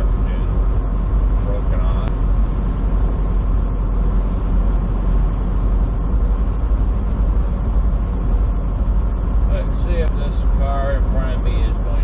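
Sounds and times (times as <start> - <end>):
truck cab road and engine rumble: 0.0 - 12.0.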